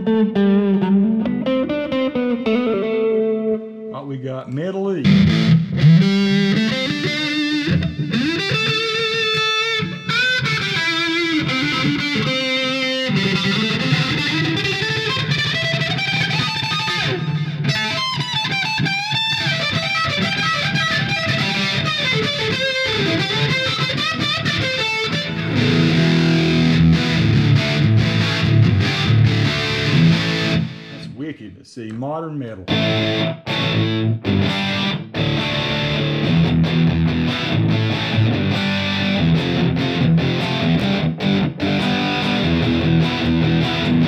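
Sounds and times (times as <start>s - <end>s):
distorted electric guitar lead: 0.0s - 4.0s, 4.9s - 31.2s, 32.6s - 44.0s.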